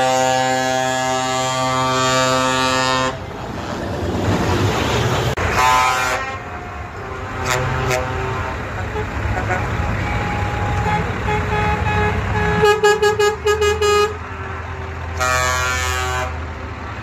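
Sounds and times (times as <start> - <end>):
truck air horn blasts: 0.0 - 3.3, 5.4 - 16.6
truck engines rumbling: 0.0 - 17.0.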